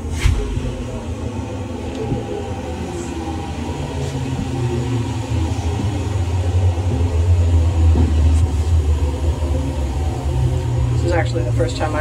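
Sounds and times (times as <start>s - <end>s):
elevator low rumble: 0.0s - 12.0s.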